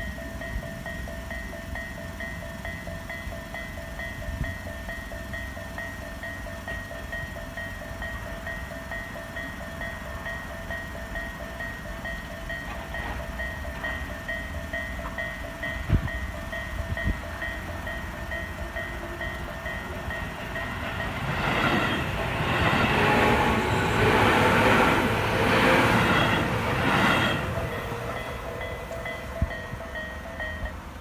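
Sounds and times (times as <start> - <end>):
electric train passing: 0.0 - 31.0
level-crossing warning bell ringing: 0.0 - 31.0.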